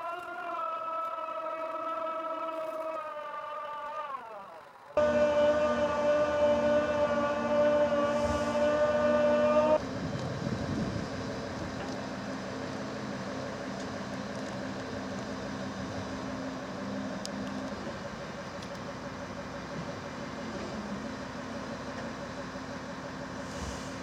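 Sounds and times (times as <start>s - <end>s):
crane whine: 0.0s - 24.0s
diesel engine running low: 0.0s - 24.0s.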